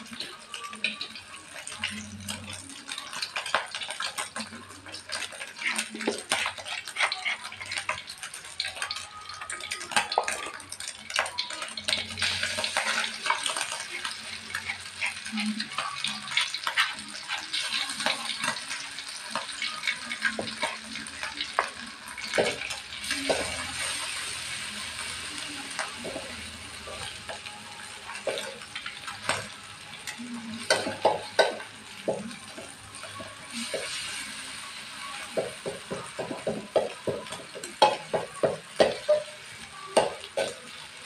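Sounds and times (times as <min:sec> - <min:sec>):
food sizzling in hot oil: 0:00.0 - 0:41.0.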